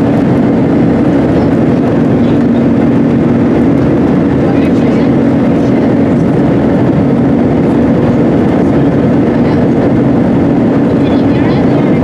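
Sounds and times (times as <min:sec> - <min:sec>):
jet engines roaring in cabin: 0:00.0 - 0:12.0.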